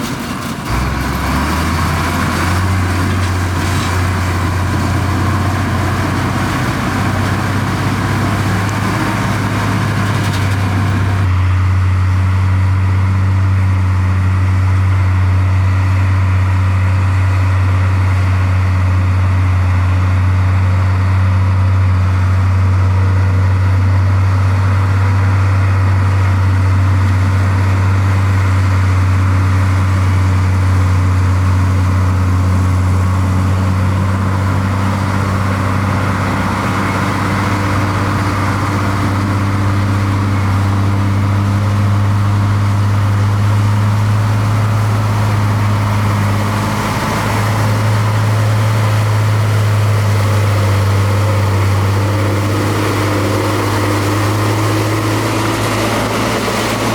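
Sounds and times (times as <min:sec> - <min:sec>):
higher-pitched engine clatter: 0:00.0 - 0:11.7, 0:14.4 - 0:56.9
diesel engine humming: 0:00.0 - 0:56.9.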